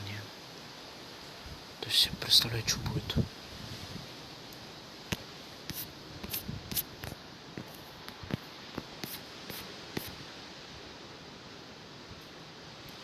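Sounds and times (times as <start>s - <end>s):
strong storm wind hissing: 0.0s - 13.0s.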